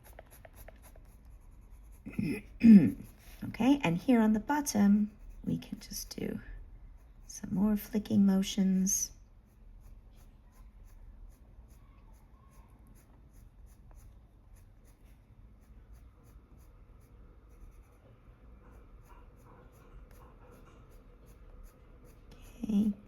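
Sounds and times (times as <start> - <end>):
pencil scratching on paper: 0.0 - 23.0.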